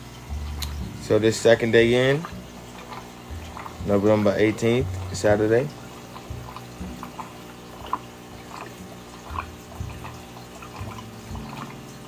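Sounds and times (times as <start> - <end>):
aquarium water bubbling: 0.0 - 12.0
steady low hum: 0.0 - 12.0.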